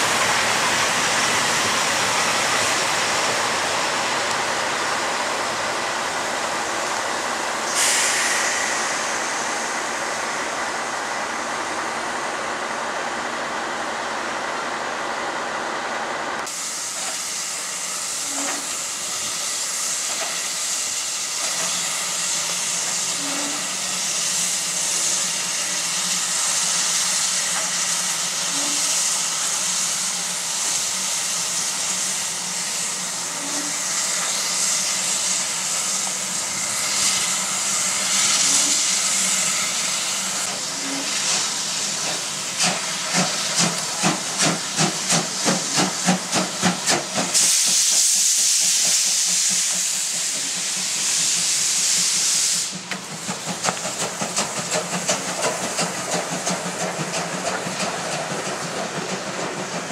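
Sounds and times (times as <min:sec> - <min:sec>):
loud burst of steam hiss: 0:00.0 - 0:12.8, 0:16.4 - 0:59.9
steam hissing: 0:00.0 - 0:13.6, 0:16.4 - 0:59.9.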